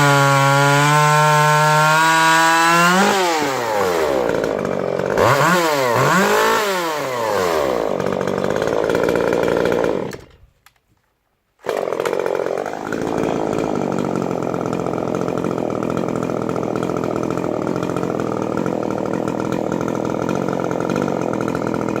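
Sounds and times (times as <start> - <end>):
chainsaw running: 0.0 - 10.5, 11.6 - 22.0.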